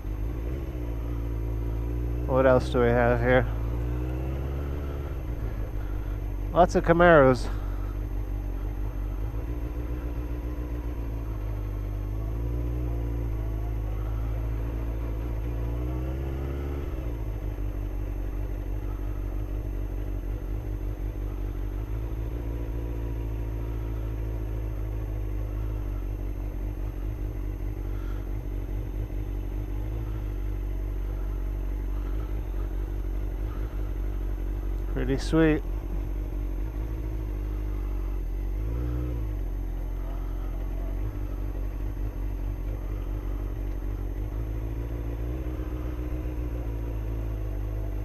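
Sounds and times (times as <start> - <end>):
deep steady rumble: 0.0 - 48.0
motorcycle engine running: 0.0 - 48.0.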